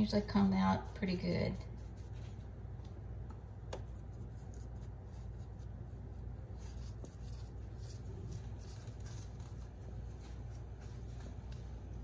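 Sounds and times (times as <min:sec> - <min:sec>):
pastry brush brushing: 0:00.0 - 0:02.8, 0:03.6 - 0:12.0
steady low hum: 0:00.0 - 0:12.0.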